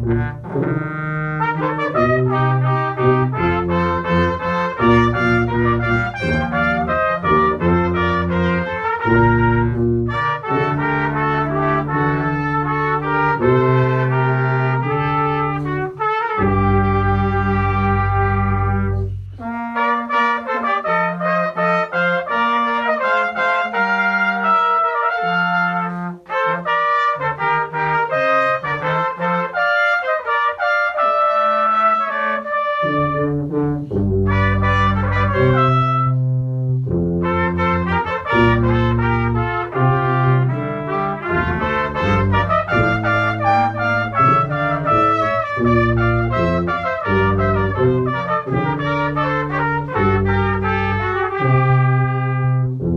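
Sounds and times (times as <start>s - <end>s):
low brass bass line: 0.0s - 52.9s
trumpets playing a melody: 0.0s - 52.9s.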